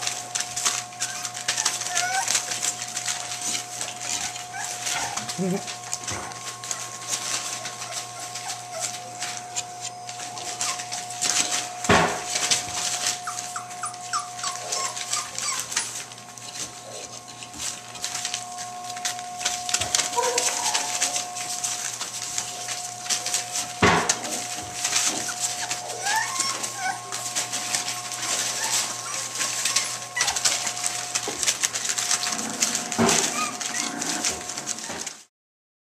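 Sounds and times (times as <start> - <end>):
puppies scuffling on newspaper: 0.0 - 35.3
puppies whimpering and yipping: 0.0 - 35.3.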